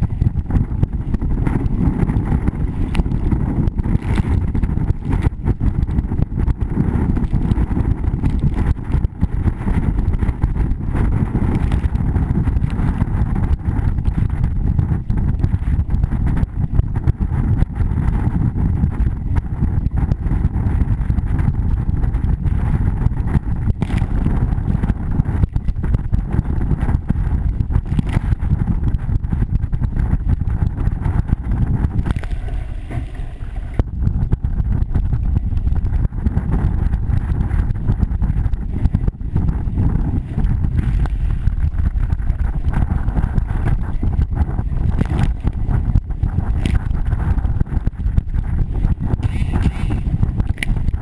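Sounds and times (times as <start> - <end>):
water rushing against hull: 0.0 - 51.0
wind buffeting microphone: 0.0 - 51.0.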